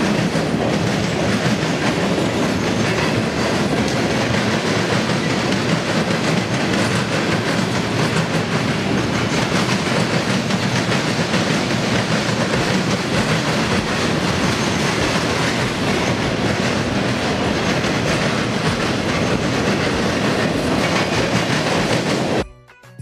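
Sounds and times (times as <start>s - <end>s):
freight train cars rolling past: 0.0s - 22.4s.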